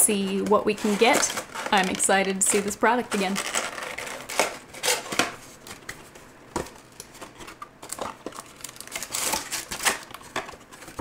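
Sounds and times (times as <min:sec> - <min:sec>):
plastic wrapping crinkling: 0:00.1 - 0:05.9, 0:06.7 - 0:11.0.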